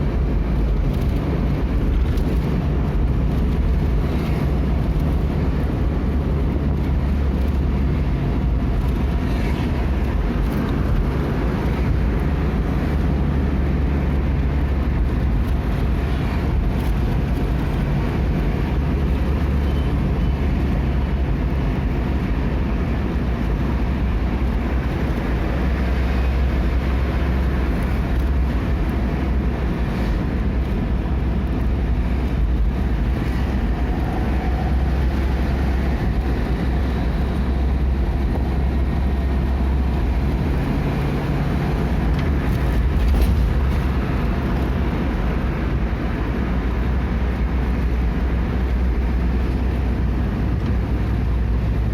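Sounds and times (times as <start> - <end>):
road noise hiss: 0.0 - 51.9
vehicle engine drone: 0.0 - 51.9.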